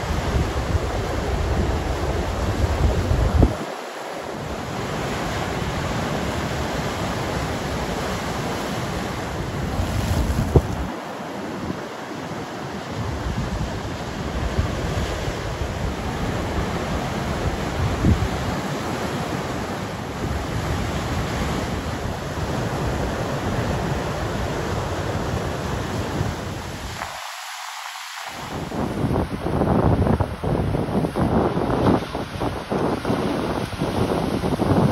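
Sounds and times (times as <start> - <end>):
wind buffeting microphone: 0.0 - 27.3, 27.9 - 34.9
ocean surf breaking: 0.0 - 34.9.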